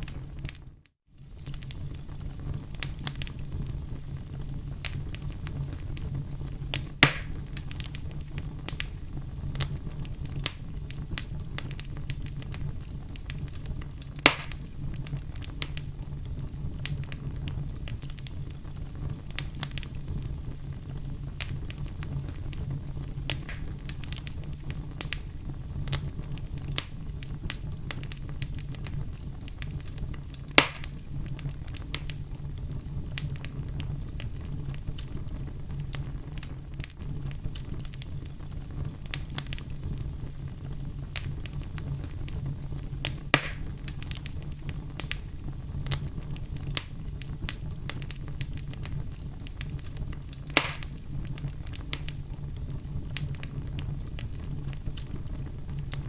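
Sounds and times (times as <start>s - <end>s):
fireplace fire crackling: 0.0s - 56.0s.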